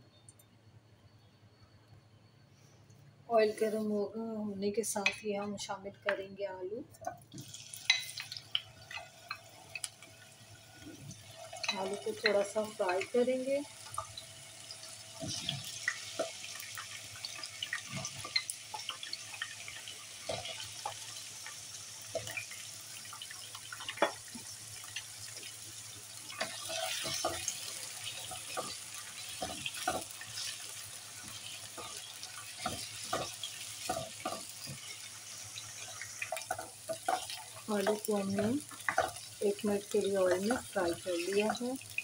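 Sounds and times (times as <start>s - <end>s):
potatoes sizzling in hot oil: 7.0s - 42.0s.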